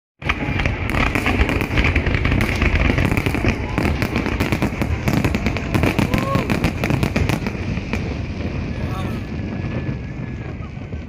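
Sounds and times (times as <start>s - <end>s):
deep firework booms: 0.2s - 11.0s
firework bangs and crackles: 0.2s - 11.0s.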